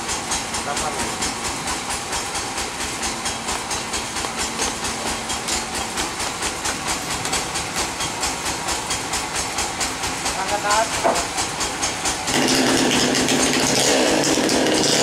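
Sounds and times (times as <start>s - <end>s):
sawmill machinery pulsing hiss: 0.0s - 15.0s.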